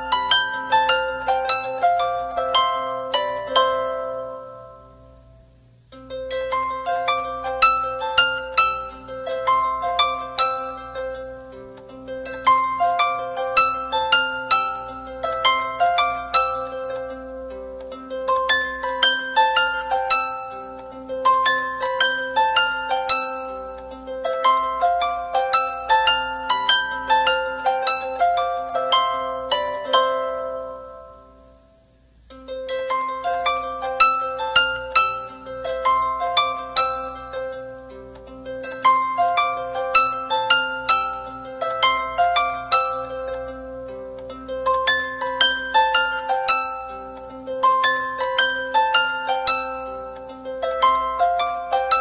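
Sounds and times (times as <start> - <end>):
plucked-string instrumental music: 0.0 - 52.0.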